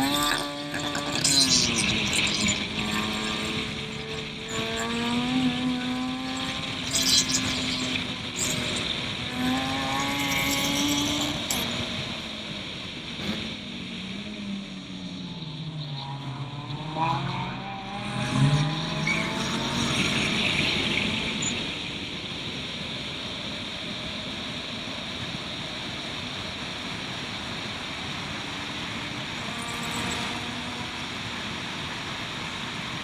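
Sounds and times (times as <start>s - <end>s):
race car engine revving: 0.0s - 33.0s.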